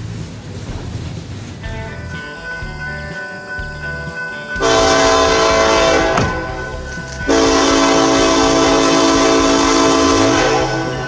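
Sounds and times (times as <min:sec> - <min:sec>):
locomotive air horn blasts: 0:02.1 - 0:11.0.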